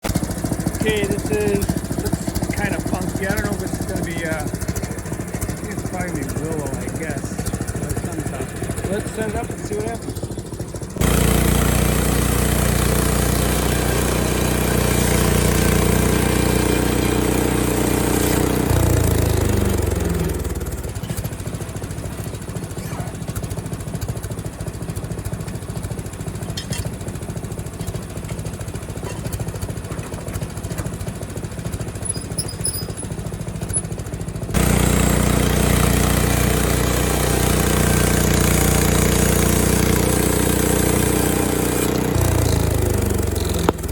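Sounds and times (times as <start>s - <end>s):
small gasoline engine running: 0.0s - 43.9s.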